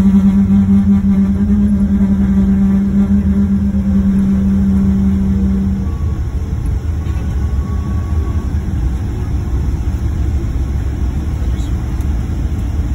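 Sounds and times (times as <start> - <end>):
airplane cabin engine rumble: 0.0 - 12.9
humming tone: 0.0 - 12.9.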